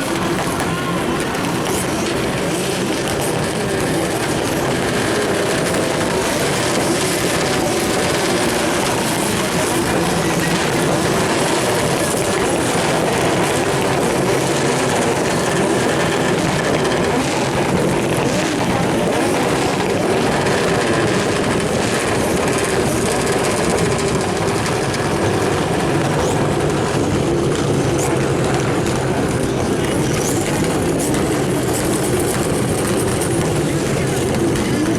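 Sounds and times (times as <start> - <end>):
turbocharged car engine running: 0.0 - 34.9.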